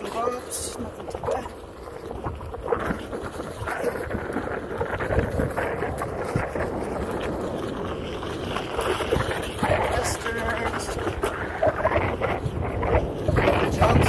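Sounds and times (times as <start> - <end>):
tyre rumbling on dirt trail: 0.0 - 14.0
wind buffeting microphone: 0.0 - 14.0.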